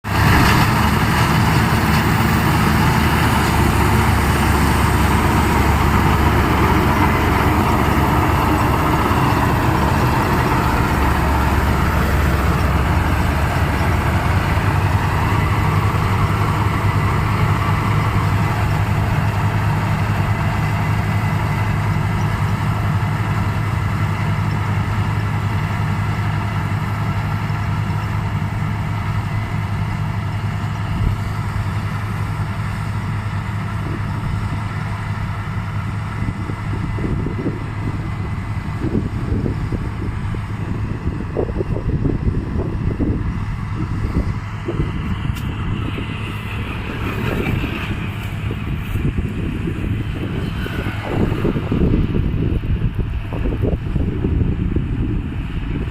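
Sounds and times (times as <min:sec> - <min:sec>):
combine harvester running: 0:00.0 - 0:55.9.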